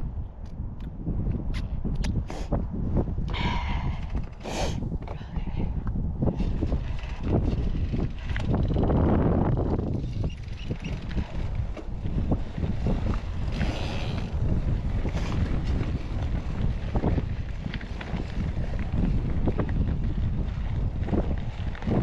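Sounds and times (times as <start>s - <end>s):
wind buffeting microphone: 0.0s - 22.0s
mountain bike clicks and rattles: 3.9s - 22.0s.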